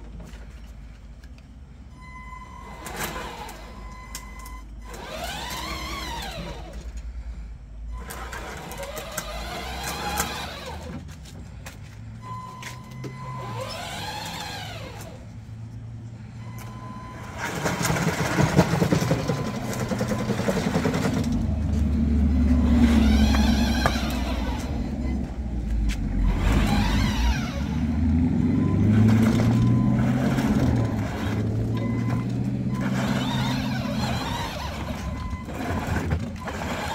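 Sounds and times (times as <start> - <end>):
electric drive motors whining: 2.0 - 36.9.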